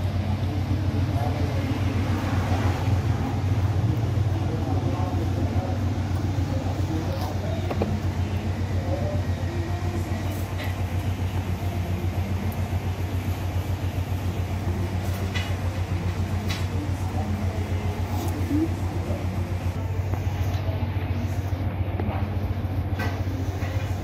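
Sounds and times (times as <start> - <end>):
low mechanical hum with flutter: 0.0 - 24.0.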